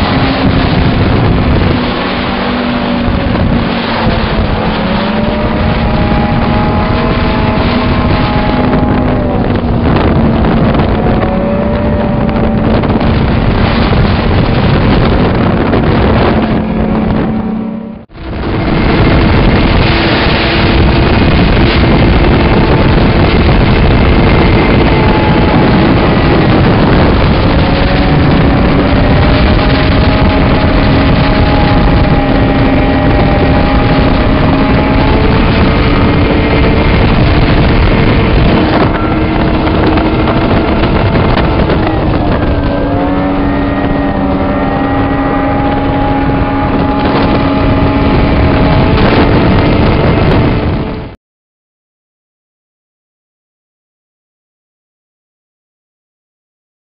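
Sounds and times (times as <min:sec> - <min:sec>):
clatter and rush of ride: 0:00.0 - 0:51.2
snowmobile engine running: 0:00.0 - 0:51.2.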